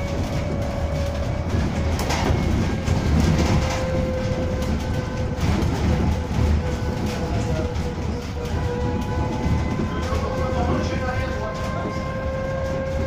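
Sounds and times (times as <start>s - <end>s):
bus cabin rumble: 0.0s - 13.0s.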